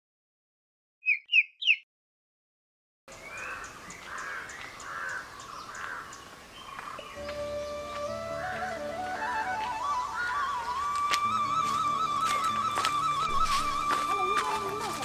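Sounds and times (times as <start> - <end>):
birds chirping: 1.0 - 1.8, 3.1 - 15.0.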